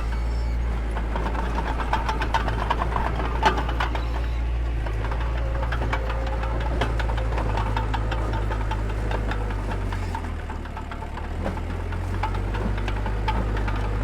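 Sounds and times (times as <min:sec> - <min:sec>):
clicks and knocks: 0:00.0 - 0:14.0
diesel bulldozer engine running: 0:00.0 - 0:14.0.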